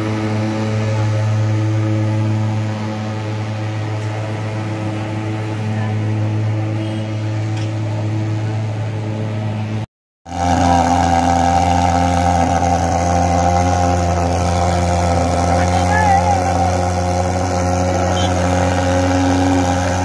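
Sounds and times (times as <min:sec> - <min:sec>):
fogging machine droning: 0:00.0 - 0:09.7, 0:10.3 - 0:20.0.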